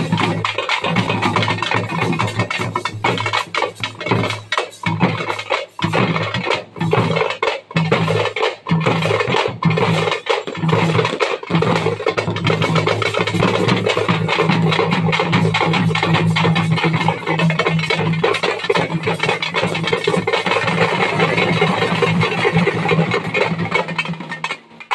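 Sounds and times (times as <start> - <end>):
frame drums beating: 0.0 - 24.9
large drum: 0.0 - 24.9.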